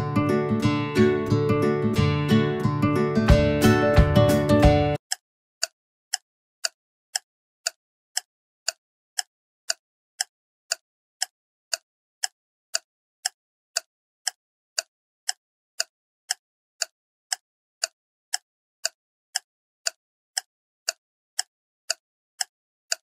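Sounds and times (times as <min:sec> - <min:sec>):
clock-like timer ticks: 0:03.3 - 0:23.0.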